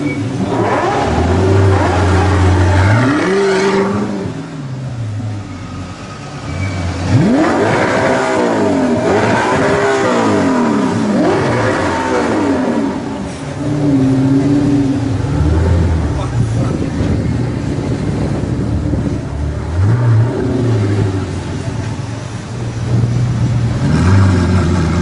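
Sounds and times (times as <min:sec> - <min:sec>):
car engine revving hard: 0:00.0 - 0:04.6, 0:06.6 - 0:21.8, 0:22.8 - 0:25.0.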